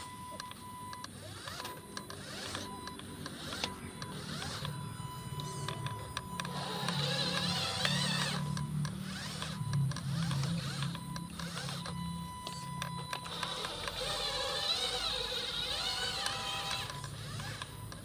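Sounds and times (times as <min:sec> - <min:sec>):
toy truck electric motor whine: 0:00.0 - 0:18.0.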